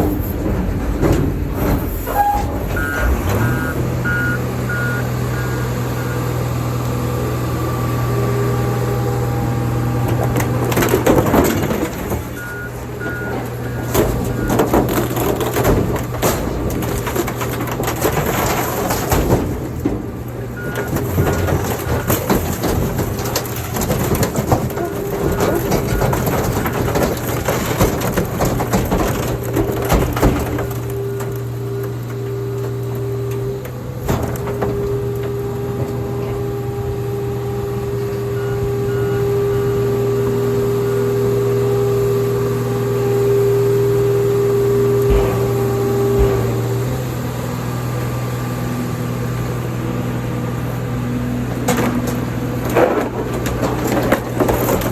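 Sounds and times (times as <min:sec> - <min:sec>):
crusher machine hum and whine: 0:00.0 - 0:54.9.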